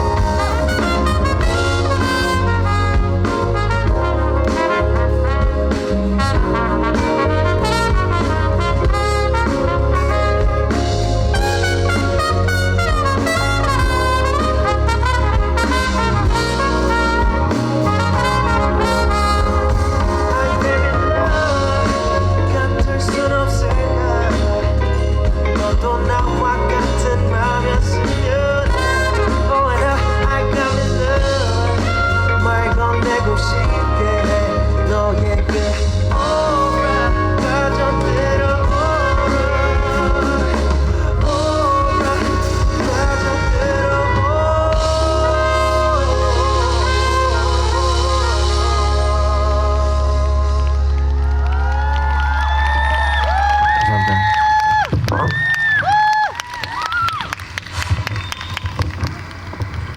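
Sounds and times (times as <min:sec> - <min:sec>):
lead melody bending in pitch: 0:00.0 - 0:53.6
bass and drum groove: 0:00.0 - 0:59.9.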